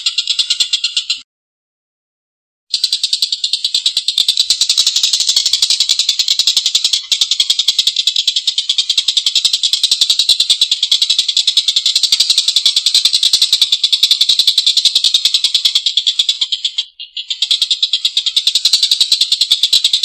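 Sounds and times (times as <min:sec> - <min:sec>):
kingfisher chattering call: 0:02.7 - 0:20.0.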